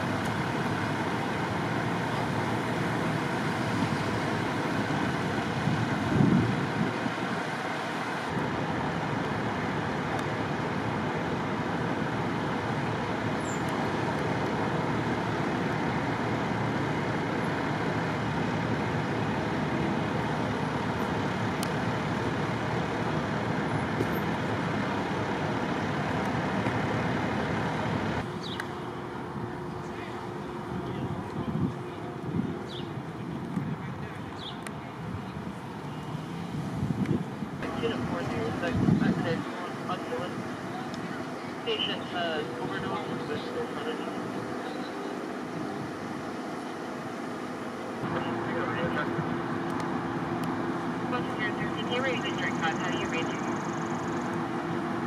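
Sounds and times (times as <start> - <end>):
road traffic noise: 0.0 - 55.0.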